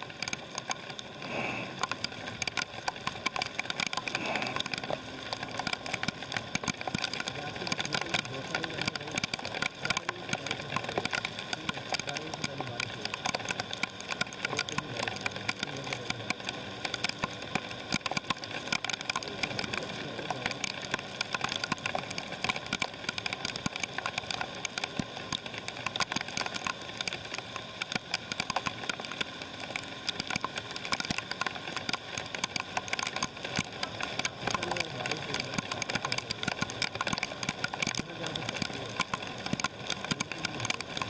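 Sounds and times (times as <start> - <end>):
rain drops crackling: 0.0 - 41.0.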